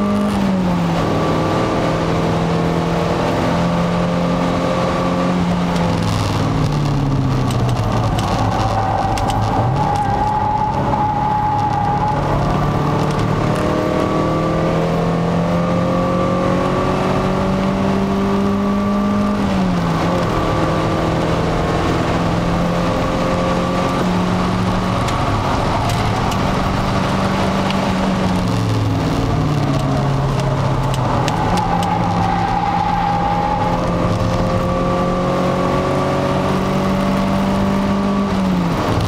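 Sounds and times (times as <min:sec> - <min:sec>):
car engine under load: 0:00.0 - 0:39.0
road and wind noise: 0:00.0 - 0:39.0.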